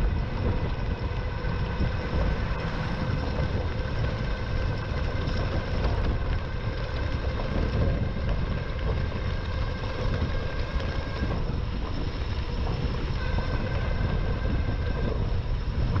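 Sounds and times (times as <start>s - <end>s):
faint thin whine: 0.0s - 16.0s
low road rumble: 0.0s - 16.0s
wind rushing over microphone: 0.0s - 16.0s.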